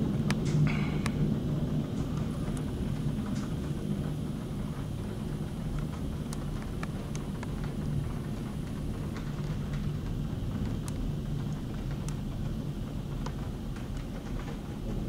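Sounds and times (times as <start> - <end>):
gusty wind: 0.0 - 15.0
heavy rain rushing: 0.0 - 15.0
raindrops ticking close by: 0.0 - 15.0.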